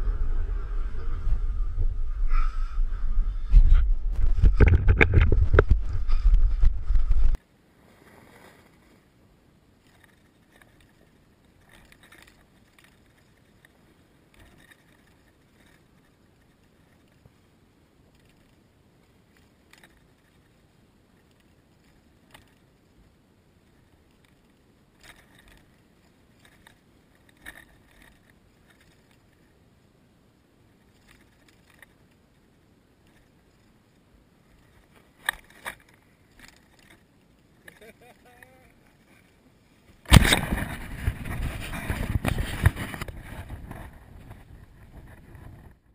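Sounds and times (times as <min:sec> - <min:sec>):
soft rustles: 0:00.0 - 0:45.9.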